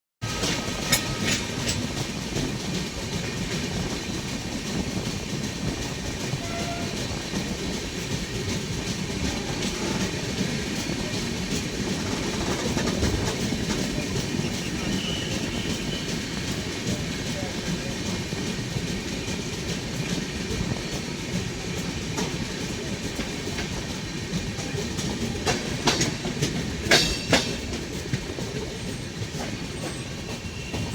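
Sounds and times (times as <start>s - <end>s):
train wheels rumbling on rails: 0.2s - 30.9s.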